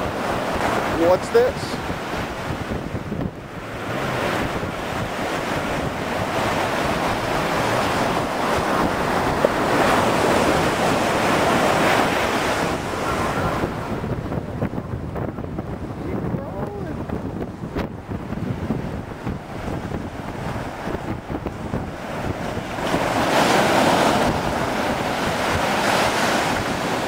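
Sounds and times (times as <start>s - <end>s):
breaking surf: 0.0s - 27.0s
wind buffeting microphone: 0.0s - 27.0s.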